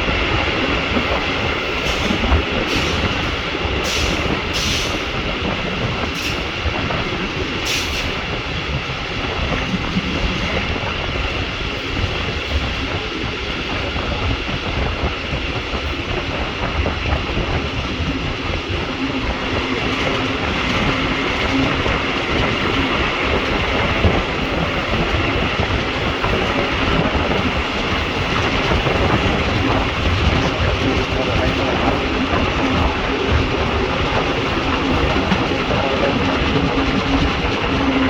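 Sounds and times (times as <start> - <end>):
train wheels rolling on track: 0.0 - 38.0.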